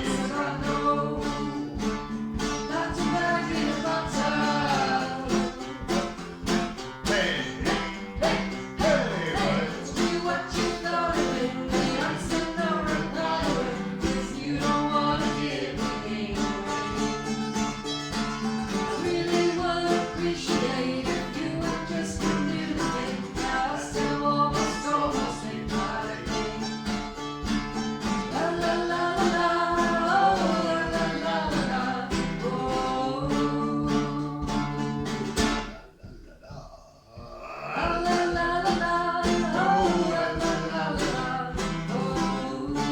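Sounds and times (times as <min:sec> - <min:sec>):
person singing: 0:00.0 - 0:17.3, 0:18.6 - 0:26.8, 0:28.3 - 0:42.9
strummed and plucked strings: 0:00.0 - 0:36.4, 0:37.6 - 0:42.9.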